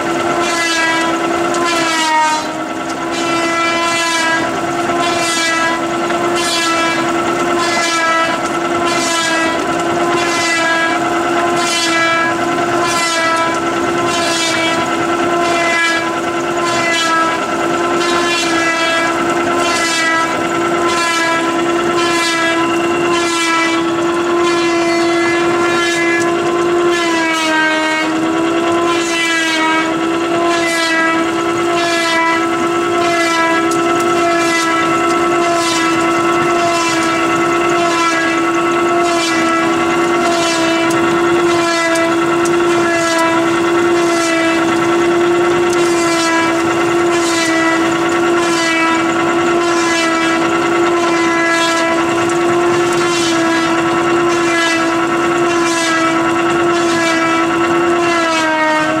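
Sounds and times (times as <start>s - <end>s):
machine mechanical whine: 0.0s - 59.0s.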